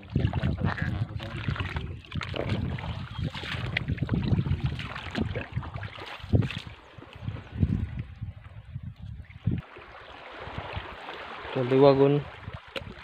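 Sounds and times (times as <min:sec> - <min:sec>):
seawater sloshing and splashing: 0:00.0 - 0:13.0
wind buffeting microphone: 0:00.0 - 0:13.0.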